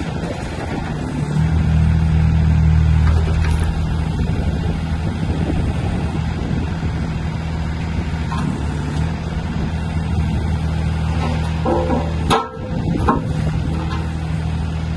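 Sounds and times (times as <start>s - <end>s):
excavator diesel engine droning: 0.0s - 14.9s.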